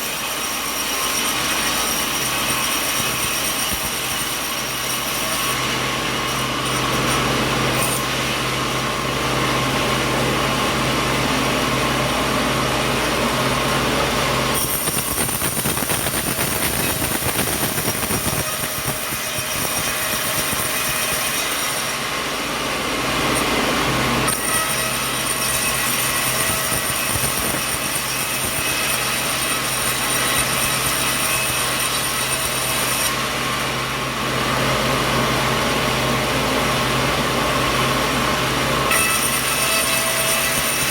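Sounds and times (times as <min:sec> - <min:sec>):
sawmill machinery sawing wood: 0:00.0 - 0:40.9.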